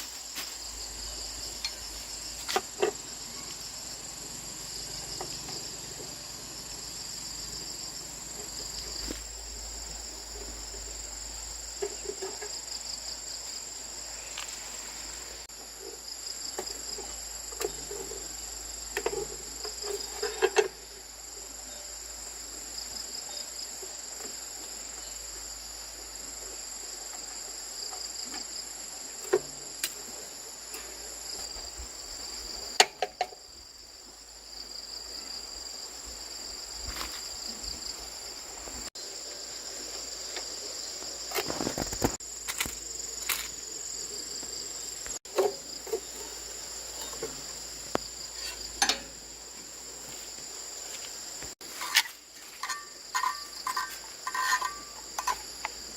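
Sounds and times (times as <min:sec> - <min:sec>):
insect chorus trilling: 0:00.0 - 0:55.9.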